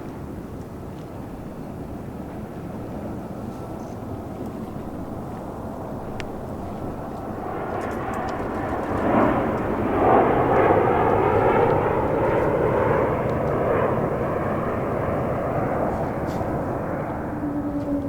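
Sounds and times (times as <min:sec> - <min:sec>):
jet airliner engine noise: 0:00.0 - 0:18.0.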